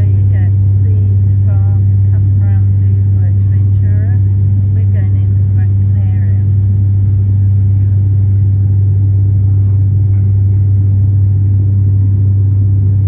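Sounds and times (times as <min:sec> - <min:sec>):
turboprop cabin drone: 0:00.0 - 0:13.0.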